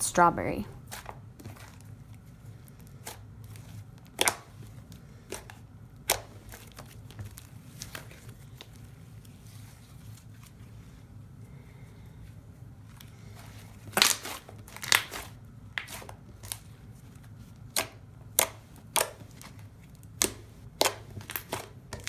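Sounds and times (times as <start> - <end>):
low steady hum: 0.0 - 22.0
slime squishing and crinkling: 0.8 - 11.2, 12.8 - 22.0.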